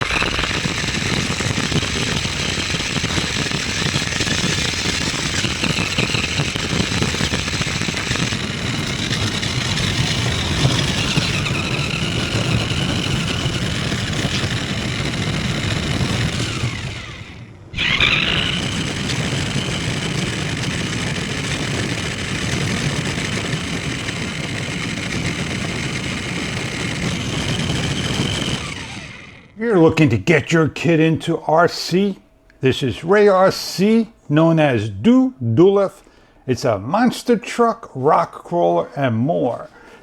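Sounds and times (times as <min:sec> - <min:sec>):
rough rattling noise: 0:00.0 - 0:32.1
electric motor and gears whining: 0:00.0 - 0:34.6.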